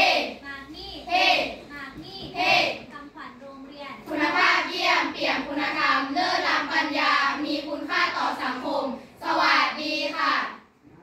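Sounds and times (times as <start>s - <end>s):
girls singing in chorus: 0.0s - 0.4s, 1.0s - 2.9s, 4.1s - 10.8s.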